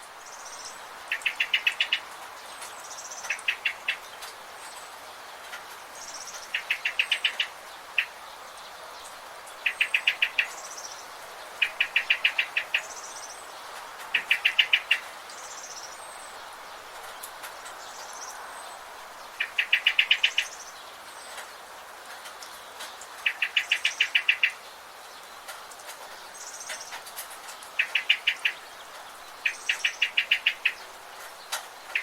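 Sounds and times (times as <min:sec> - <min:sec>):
faint background hiss: 0:00.0 - 0:32.0.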